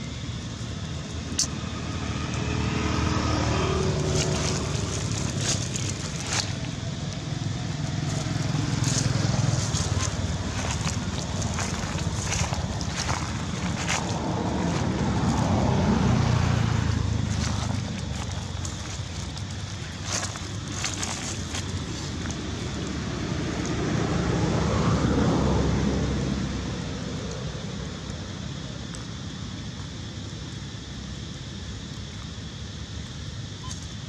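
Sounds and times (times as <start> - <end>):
motor vehicles passing: 0.2 - 28.6.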